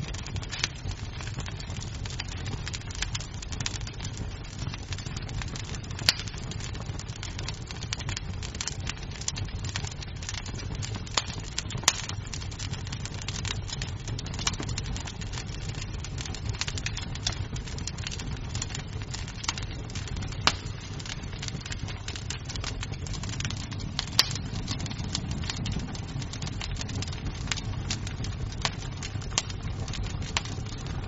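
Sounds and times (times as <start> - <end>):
low rumble of burning: 0.0 - 31.0
wood fire crackling: 0.0 - 31.0.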